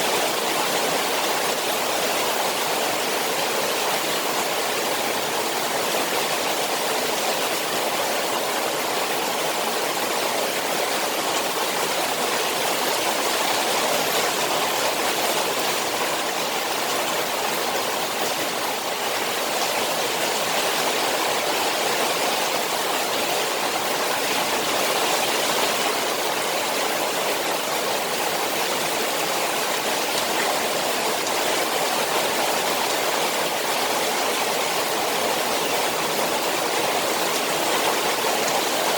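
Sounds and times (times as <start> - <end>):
rain falling on a pond: 0.0 - 38.9.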